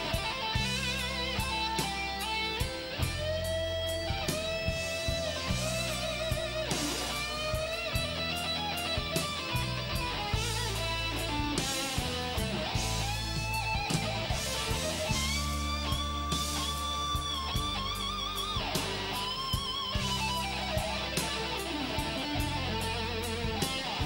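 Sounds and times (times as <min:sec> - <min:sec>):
bass and drums: 0:00.0 - 0:24.0
blues electric guitar solo: 0:00.0 - 0:24.0.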